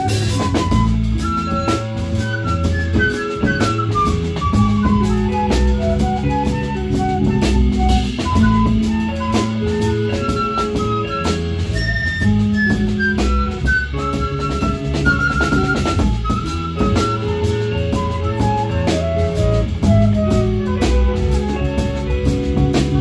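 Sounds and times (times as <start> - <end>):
drum kit beat: 0.0 - 23.0
melody of held notes: 0.0 - 23.0
sustained bass notes: 0.0 - 23.0.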